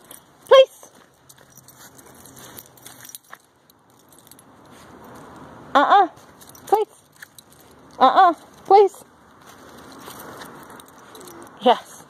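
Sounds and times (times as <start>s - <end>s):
leash and collar jingling: 0.0s - 12.0s.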